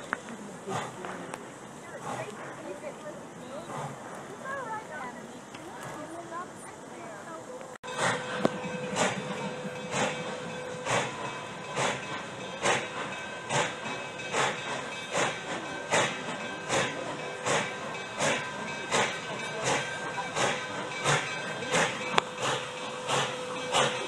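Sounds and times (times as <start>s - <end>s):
steam hissing: 0.0s - 24.0s
steam locomotive chuffing: 0.0s - 24.0s.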